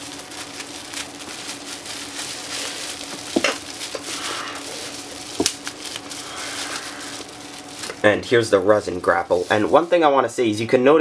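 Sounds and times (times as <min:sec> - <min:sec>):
bubble wrap rustling and crinkling: 0:00.0 - 0:11.0
sharp bubble wrap crackles: 0:00.0 - 0:11.0.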